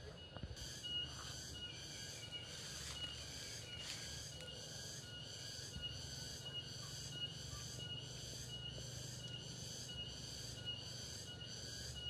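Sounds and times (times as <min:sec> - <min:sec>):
insects buzzing in pulses: 0:00.6 - 0:12.0.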